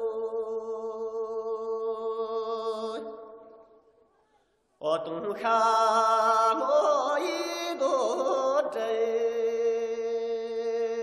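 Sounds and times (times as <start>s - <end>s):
chant-like singing voice: 0.0s - 3.5s, 4.8s - 11.0s.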